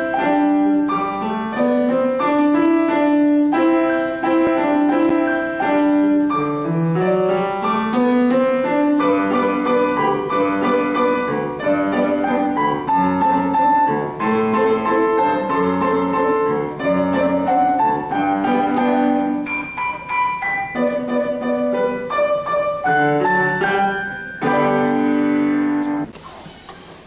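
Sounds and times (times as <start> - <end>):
piano duet: 0.0 - 26.6.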